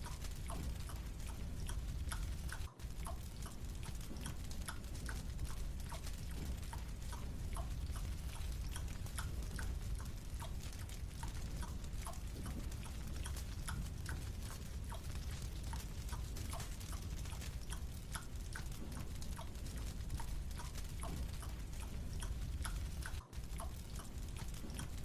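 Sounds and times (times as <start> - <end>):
chewing marshmallow wet clicks: 0.0 - 25.0
steady low hum: 0.0 - 25.0.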